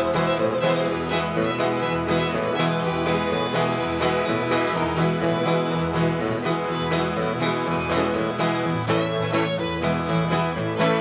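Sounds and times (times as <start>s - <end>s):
acoustic guitar strumming: 0.0s - 11.0s
cello playing: 0.0s - 11.0s
fiddles playing: 0.0s - 11.0s.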